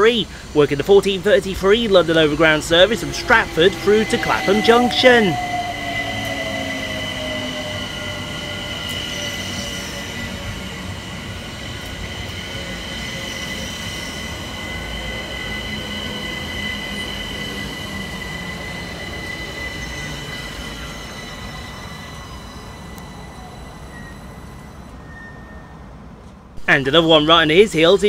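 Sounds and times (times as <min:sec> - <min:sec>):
electric train arriving: 0:00.0 - 0:28.0
high squeal of train: 0:00.0 - 0:28.0.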